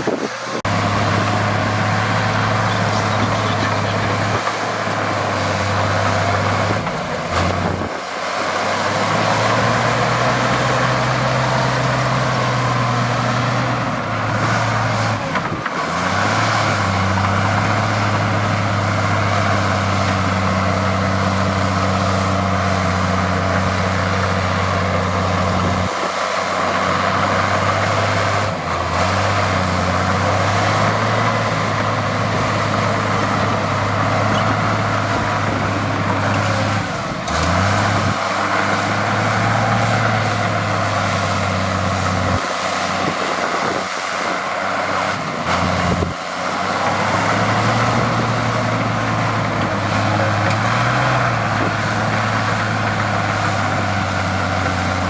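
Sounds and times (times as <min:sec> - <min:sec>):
diesel machine engine running: 0:00.0 - 0:55.0.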